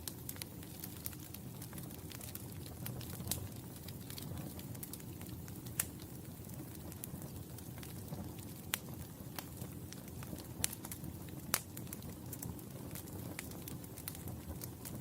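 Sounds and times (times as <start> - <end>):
sharp fire pops: 0.0 - 15.0
wood fire burning: 0.0 - 15.0.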